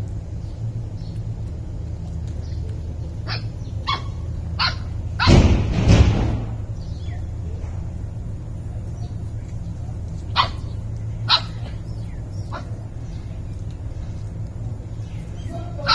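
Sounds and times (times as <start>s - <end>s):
steady low hum: 0.0s - 15.9s
puppies barking: 2.3s - 15.9s.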